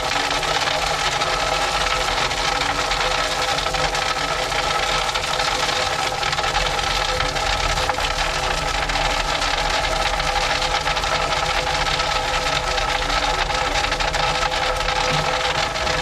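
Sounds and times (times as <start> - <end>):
track maintenance machine engine: 0.0 - 16.0.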